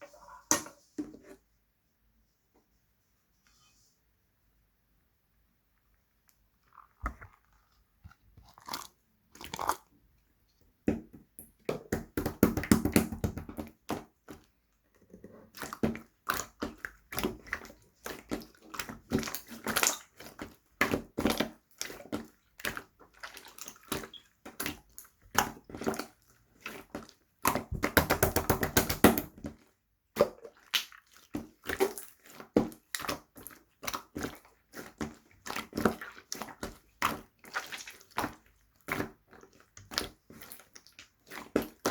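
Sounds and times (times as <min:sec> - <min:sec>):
slime squelching with clicks and pops: 0:05.7 - 0:41.9.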